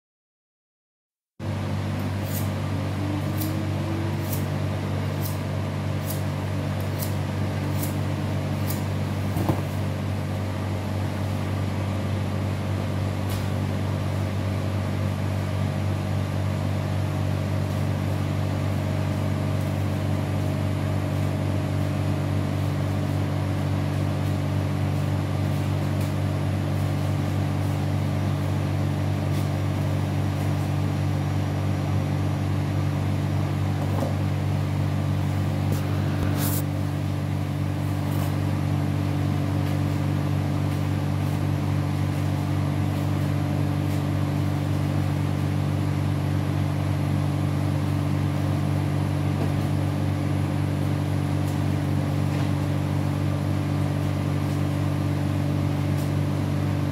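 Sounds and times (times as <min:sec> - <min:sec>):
refrigeration fans humming: 0:01.4 - 0:56.9.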